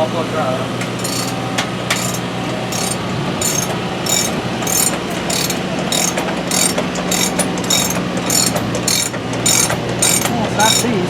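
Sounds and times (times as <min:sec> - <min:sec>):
ratchet wrench clicking: 0:00.8 - 0:10.9.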